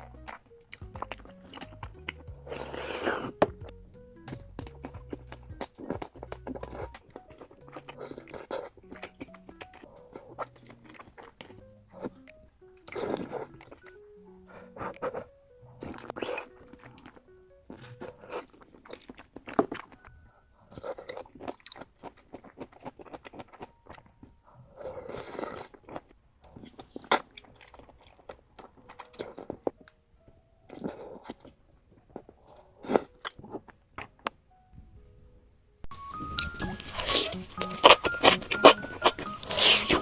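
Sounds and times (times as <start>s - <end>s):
person chewing crunchy food: 0.0s - 29.9s, 30.7s - 34.3s, 35.9s - 40.0s
quiet background music: 0.0s - 40.0s.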